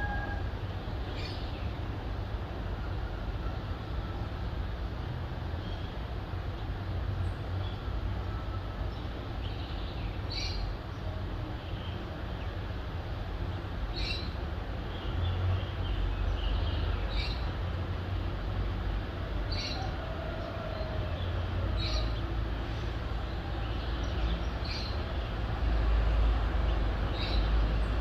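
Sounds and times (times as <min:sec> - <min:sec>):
distant city traffic rumble: 0:00.0 - 0:28.0.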